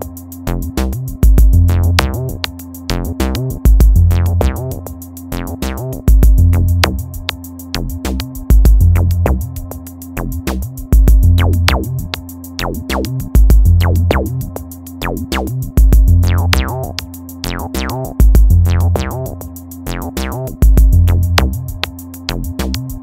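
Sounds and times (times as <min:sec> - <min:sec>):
electronic music: 0:00.0 - 0:23.0.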